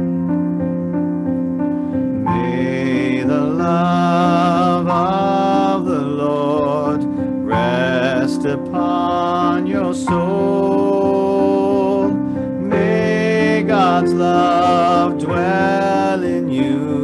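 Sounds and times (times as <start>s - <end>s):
sustained piano chords: 0.0s - 17.0s
person singing a slow hymn: 2.2s - 17.0s.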